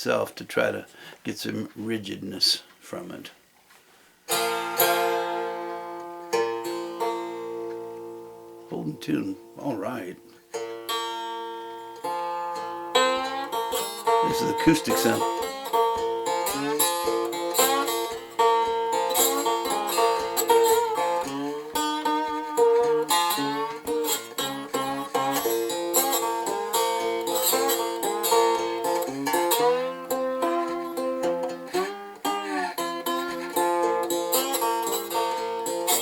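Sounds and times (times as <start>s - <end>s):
plucked metal string instrument: 4.3s - 36.0s.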